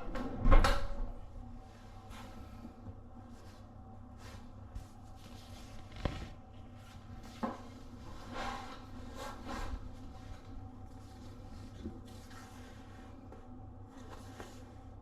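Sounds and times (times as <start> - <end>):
steady low hum: 0.0 - 15.0
rustling and handling noise: 1.6 - 15.0.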